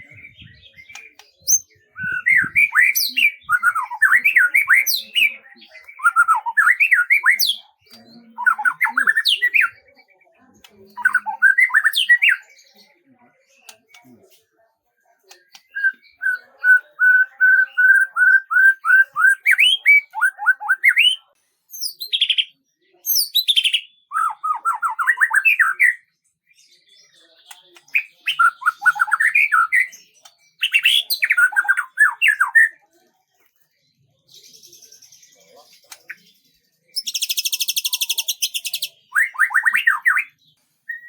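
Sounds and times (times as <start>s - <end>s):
songbird singing: 0.0s - 32.8s, 33.4s - 41.0s.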